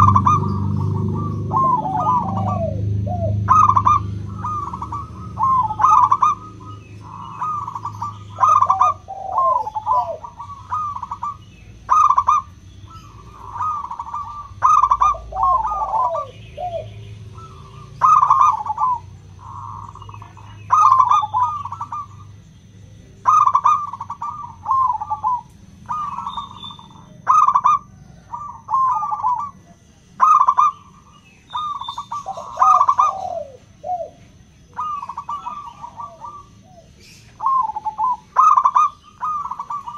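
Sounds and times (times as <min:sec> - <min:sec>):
doves rippling coos: 0:00.0 - 0:39.9.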